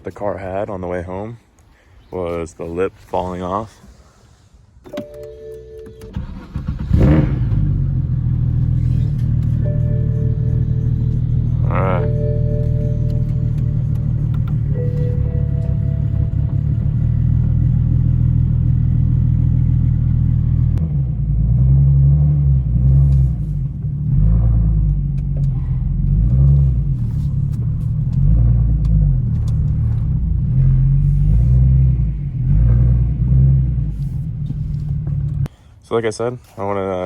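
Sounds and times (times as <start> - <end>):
car engine and exhaust drone: 3.9 - 35.6.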